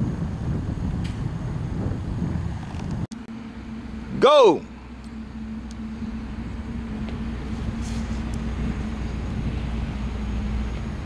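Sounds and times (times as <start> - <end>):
constant low hum: 0.0 - 11.0
outdoor background rumble: 0.0 - 11.0.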